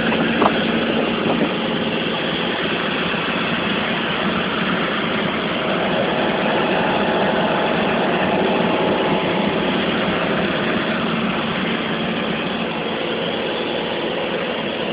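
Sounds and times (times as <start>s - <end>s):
light aircraft engine and propeller: 0.0s - 14.9s.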